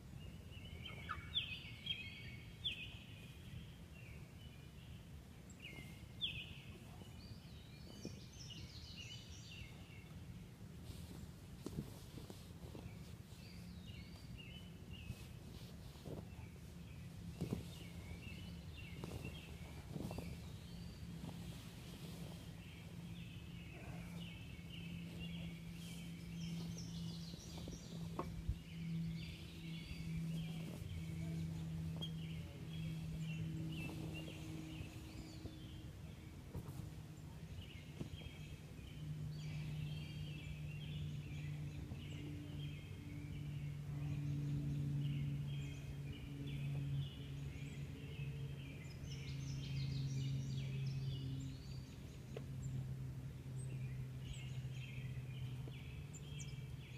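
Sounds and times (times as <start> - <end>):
songbirds chirping and singing: 0.0 - 10.2, 10.9 - 56.9
steady low drone: 3.3 - 56.9.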